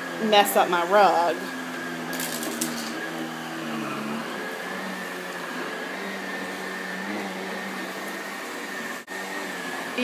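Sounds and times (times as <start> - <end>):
vacuum cleaner running on rug: 0.0 - 10.0.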